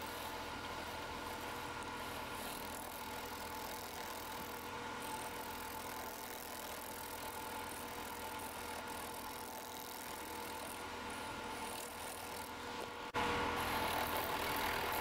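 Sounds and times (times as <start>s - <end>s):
wood lathe running: 0.0s - 15.0s.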